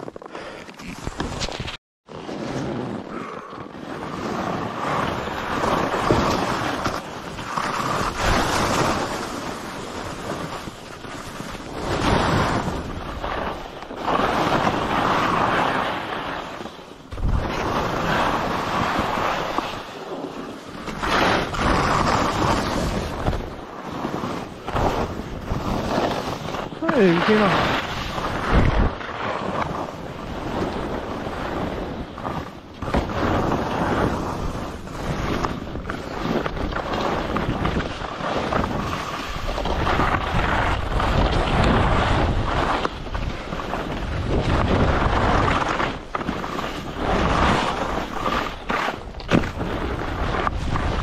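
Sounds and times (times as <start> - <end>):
skis scraping over snow: 0.0 - 51.0.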